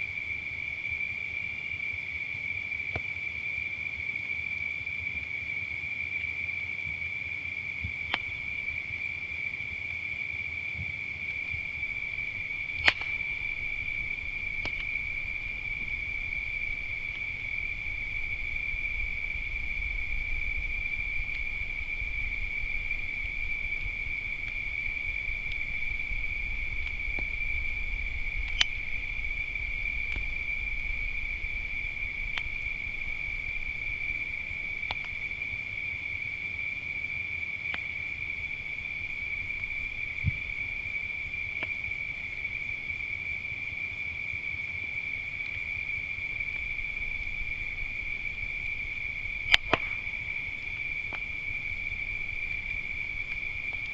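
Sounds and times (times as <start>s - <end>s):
crickets singing: 0.0s - 53.9s
campfire wood popping: 7.8s - 9.6s, 10.6s - 43.8s, 44.4s - 53.9s.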